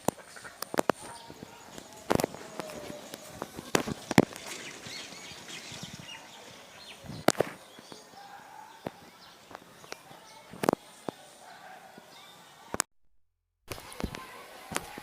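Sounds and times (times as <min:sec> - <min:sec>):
birds chirping faintly: 0:00.0 - 0:12.9, 0:13.7 - 0:15.0.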